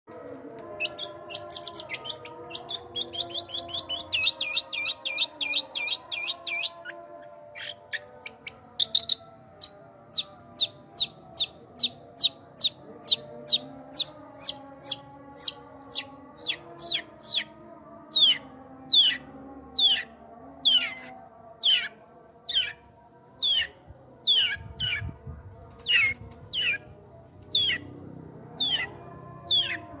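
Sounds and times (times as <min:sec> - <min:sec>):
songbird chirping: 0:00.1 - 0:30.0.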